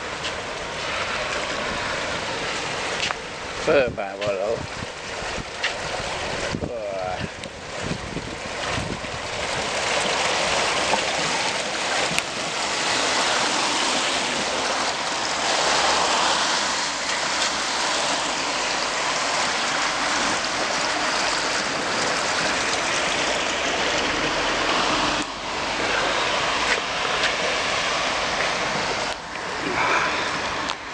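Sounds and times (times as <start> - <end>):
floodwater rushing: 0.0 - 30.9.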